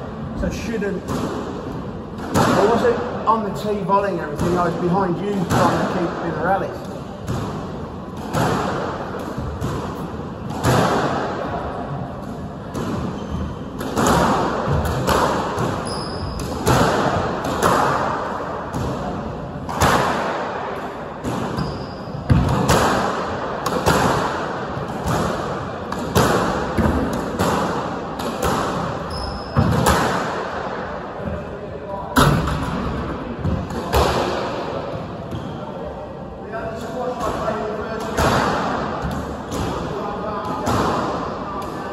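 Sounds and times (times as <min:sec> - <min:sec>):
squash racket strikes: 0:00.2 - 0:31.5, 0:32.1 - 0:35.9, 0:36.8 - 0:41.9.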